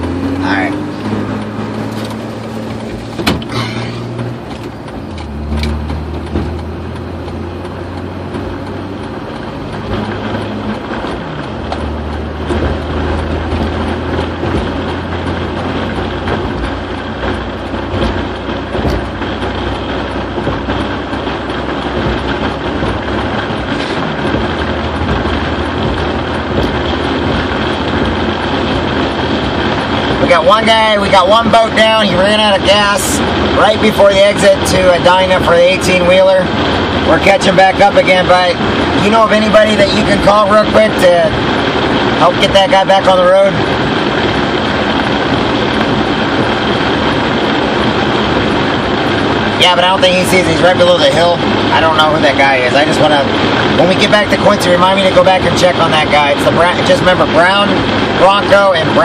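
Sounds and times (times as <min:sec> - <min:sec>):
low engine drone: 0:00.0 - 0:59.0.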